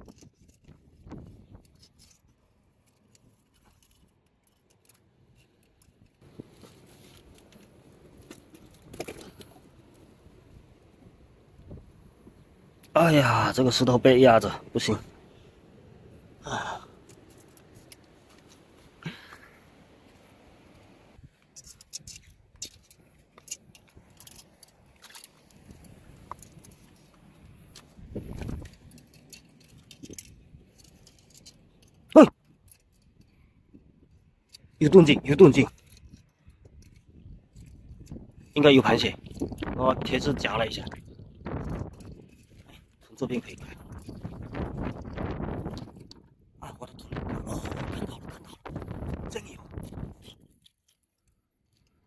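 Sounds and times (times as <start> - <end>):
faint clicks and scraping: 0.0 - 10.9, 16.8 - 46.4, 47.0 - 52.0.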